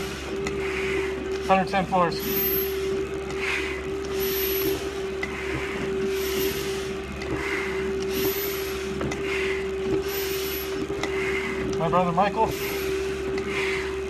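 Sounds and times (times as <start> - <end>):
hard breathing through a mask: 0.0 - 2.5, 3.2 - 14.0
steady machine hum: 0.0 - 14.0.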